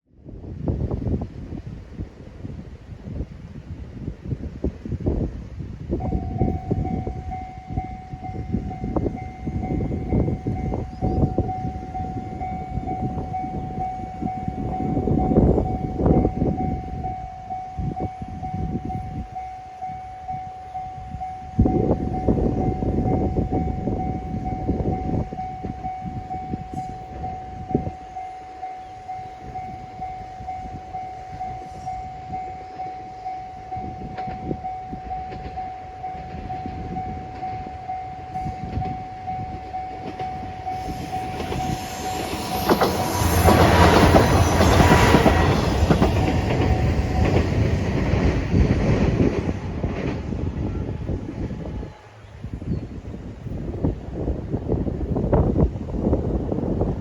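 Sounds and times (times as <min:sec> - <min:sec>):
diesel train rumbling: 0:00.2 - 0:57.0
level crossing warning bell: 0:05.9 - 0:52.6.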